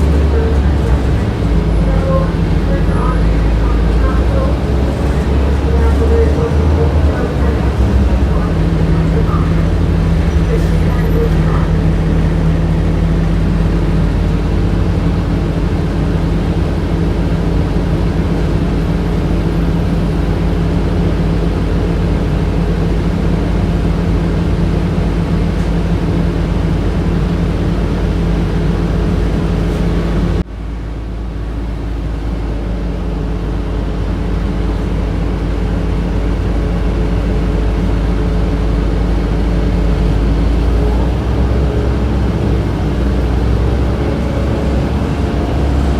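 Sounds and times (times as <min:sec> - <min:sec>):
bus interior drone and hum: 0:00.0 - 0:45.9
low rumble: 0:00.0 - 0:45.9.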